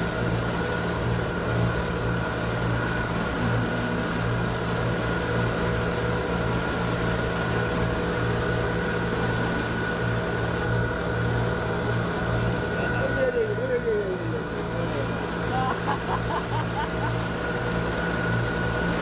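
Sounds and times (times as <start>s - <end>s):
motorboat engine droning: 0.0s - 19.0s
rushing water and wind: 0.0s - 19.0s.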